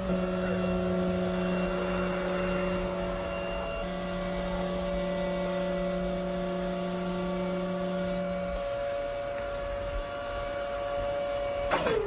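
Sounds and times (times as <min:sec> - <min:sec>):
hydraulic pump humming: 0:00.0 - 0:12.0.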